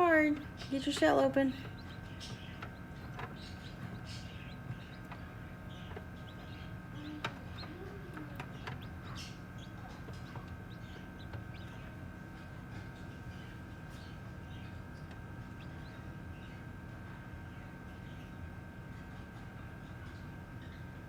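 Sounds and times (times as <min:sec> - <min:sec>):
baby chicks peeping: 0:00.0 - 0:21.0
steady hum: 0:00.0 - 0:21.0.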